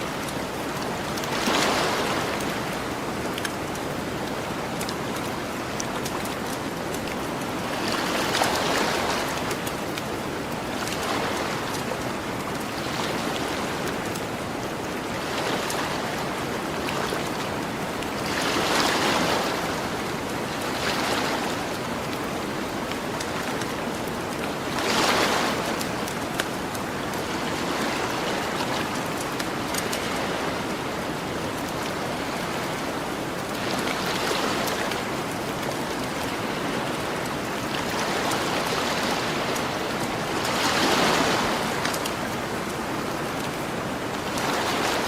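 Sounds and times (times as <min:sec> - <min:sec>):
ocean waves on beach: 0:00.0 - 0:45.0.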